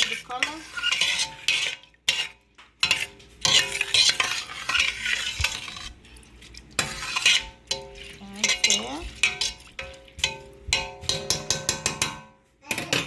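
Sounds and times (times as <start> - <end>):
spoon stirring and scraping pot: 0.0 - 13.0.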